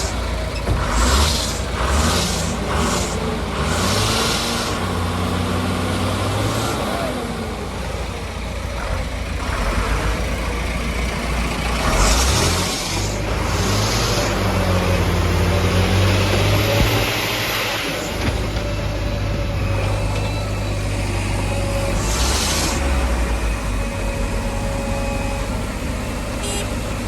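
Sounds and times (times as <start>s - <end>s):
diesel engine under load: 0.0s - 27.0s.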